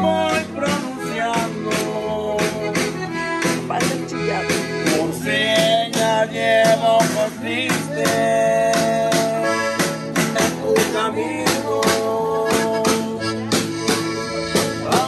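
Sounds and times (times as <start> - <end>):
instrumental music with beat: 0.0 - 15.0.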